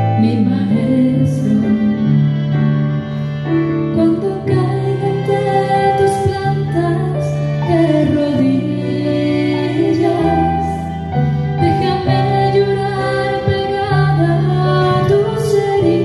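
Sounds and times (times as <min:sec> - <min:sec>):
women singing: 0:00.0 - 0:02.5, 0:03.9 - 0:11.0, 0:11.6 - 0:16.0
bowed violin: 0:00.0 - 0:16.0
keyboard: 0:00.0 - 0:16.0.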